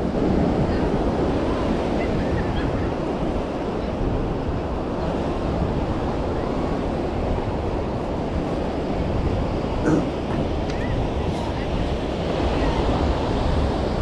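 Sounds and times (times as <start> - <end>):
surf on beach: 0.0 - 14.0
wind buffeting microphone: 0.0 - 14.0.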